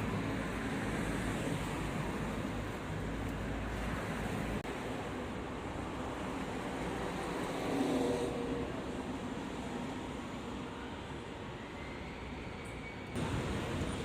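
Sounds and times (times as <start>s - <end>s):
traffic rushing and rumbling: 0.0s - 14.0s.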